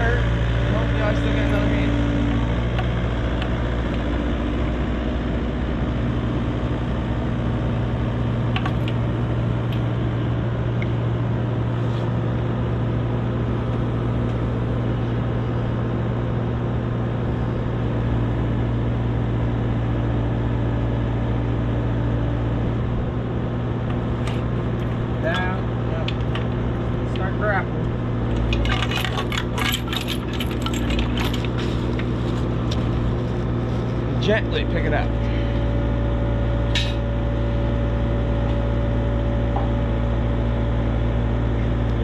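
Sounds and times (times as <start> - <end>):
heavy machine engine running: 0.0 - 42.0.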